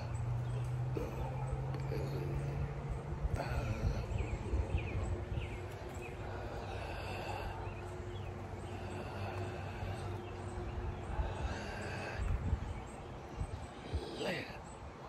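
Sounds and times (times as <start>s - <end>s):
bird chirping: 0.0s - 15.0s
steady low rumble: 0.0s - 15.0s.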